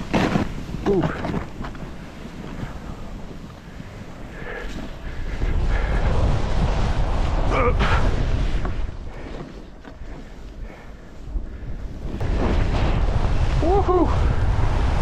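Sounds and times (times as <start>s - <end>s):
snowboard sliding over snow: 0.0s - 15.0s
wind buffeting microphone: 0.0s - 15.0s.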